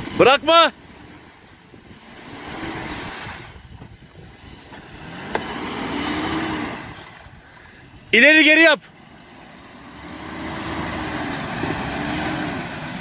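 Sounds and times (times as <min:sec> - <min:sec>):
car engine revving: 0:00.0 - 0:13.0
tyres churning and splashing: 0:00.0 - 0:13.0.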